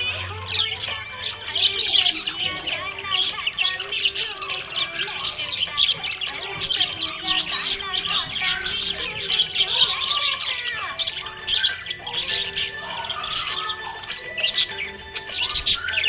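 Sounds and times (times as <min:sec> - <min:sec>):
parrots chirping and squawking: 0:00.0 - 0:16.0.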